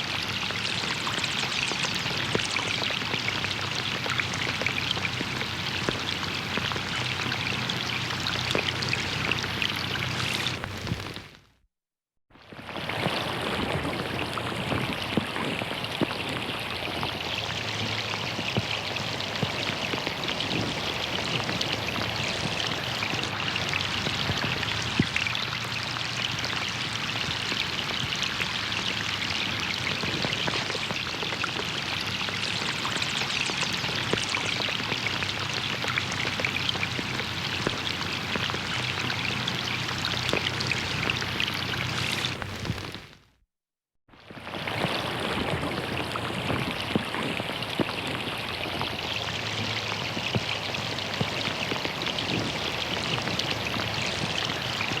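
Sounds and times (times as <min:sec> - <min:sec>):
running water: 0:00.0 - 0:11.4, 0:12.4 - 0:43.2, 0:44.2 - 0:55.0
rain falling on a pond: 0:00.0 - 0:11.5, 0:12.4 - 0:43.3, 0:44.2 - 0:55.0.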